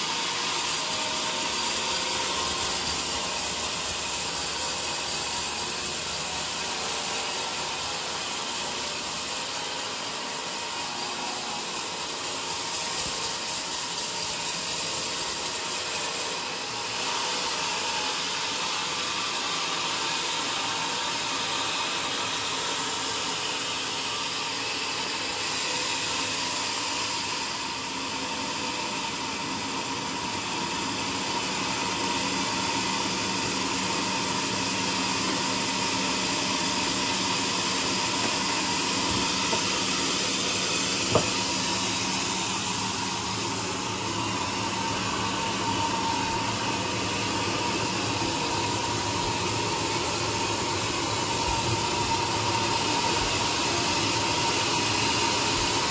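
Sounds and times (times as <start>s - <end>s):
band sawmill whine and hiss: 0.0s - 55.9s.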